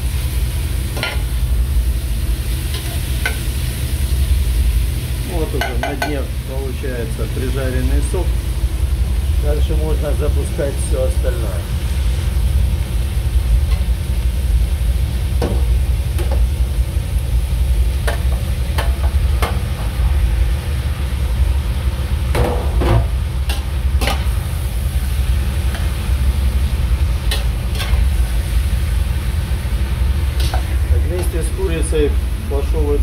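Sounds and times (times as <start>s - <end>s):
chicken frying in a pot: 0.0s - 33.0s
steady low hum: 0.0s - 33.0s.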